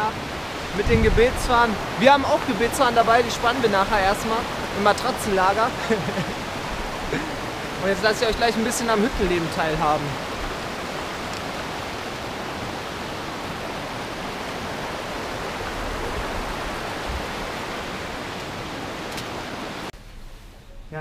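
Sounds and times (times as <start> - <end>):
river rushing over stones: 0.0 - 20.2.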